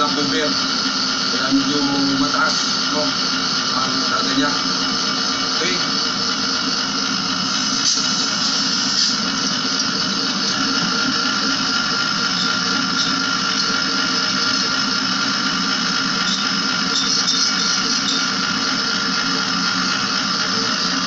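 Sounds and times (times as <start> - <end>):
air conditioner running: 0.0 - 21.0.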